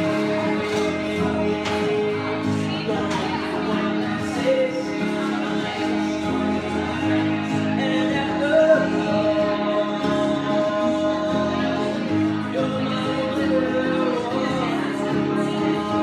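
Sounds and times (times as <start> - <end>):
electric guitar: 0.0 - 16.0
man singing: 0.0 - 16.0
strummed guitar: 0.0 - 16.0.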